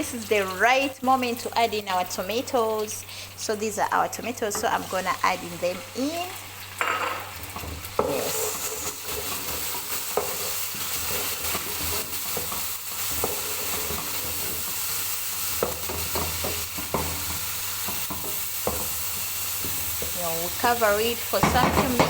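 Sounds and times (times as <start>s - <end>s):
tomatoes sizzling in hot oil: 0.0s - 22.0s.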